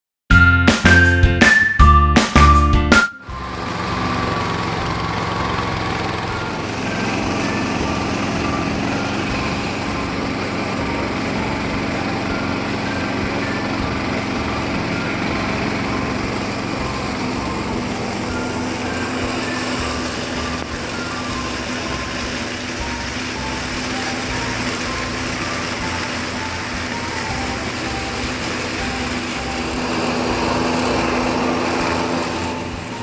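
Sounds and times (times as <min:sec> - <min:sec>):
ride-on mower engine running: 0:00.3 - 0:33.0
mower deck mulching grass: 0:02.2 - 0:33.0.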